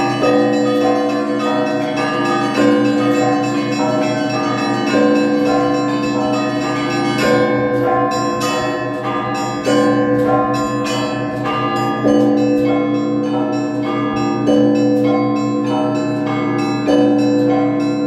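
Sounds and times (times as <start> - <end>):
heavy bell striking: 0.0 - 18.0
smaller bells ringing quickly: 0.0 - 18.0.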